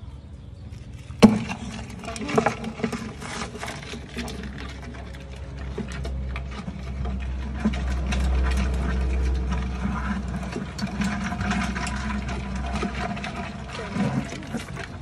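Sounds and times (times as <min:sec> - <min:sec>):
water sloshing: 0:00.6 - 0:15.0
crabs clicking and knocking: 0:00.8 - 0:15.0.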